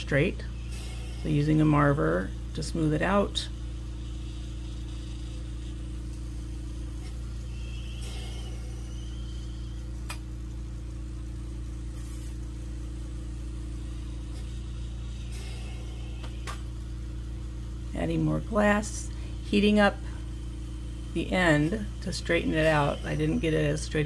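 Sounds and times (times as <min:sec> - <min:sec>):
electric motor humming: 0:00.0 - 0:24.0.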